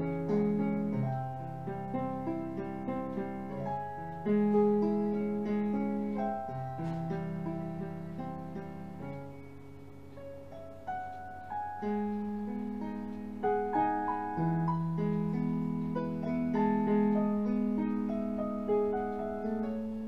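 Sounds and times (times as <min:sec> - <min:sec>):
slow keyboard melody: 0:00.0 - 0:20.0.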